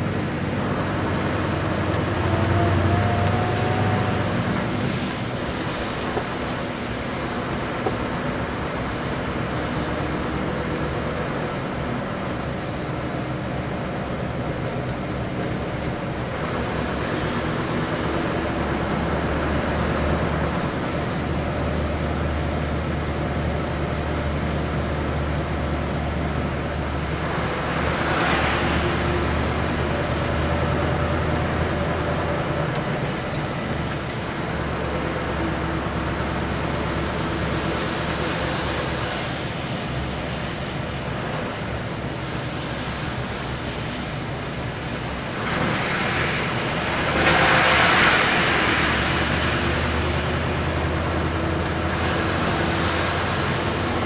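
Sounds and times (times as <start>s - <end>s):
car engine hum: 0.0s - 54.0s
tyre noise on a wet road: 0.0s - 54.0s.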